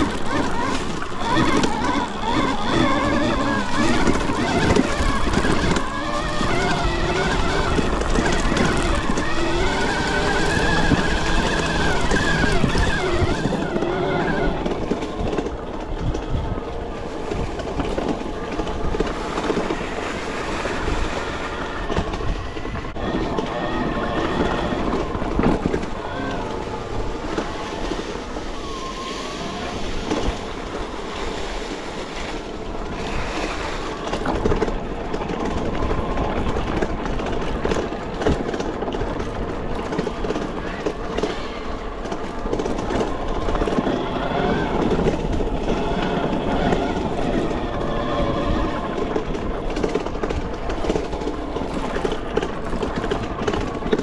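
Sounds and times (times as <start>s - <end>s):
electric bike motor whining: 0.0s - 54.0s
steady ride rumble: 0.0s - 54.0s.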